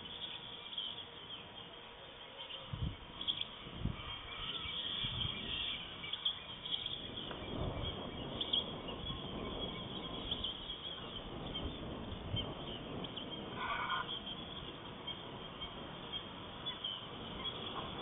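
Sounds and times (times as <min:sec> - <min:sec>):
high bird chirps: 0:00.0 - 0:18.0
steady background hiss: 0:00.0 - 0:18.0.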